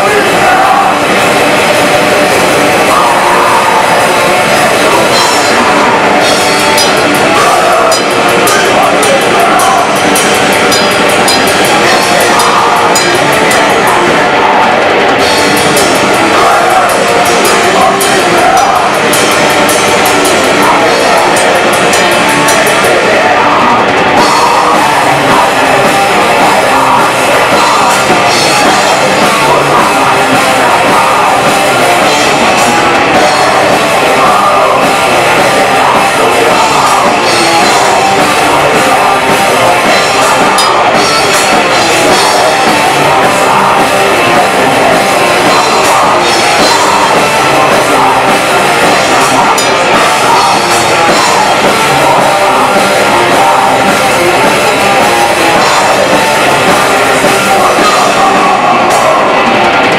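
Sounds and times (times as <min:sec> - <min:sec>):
distorted guitars: 0:00.0 - 0:59.9
fast dense drumming: 0:00.0 - 0:59.9.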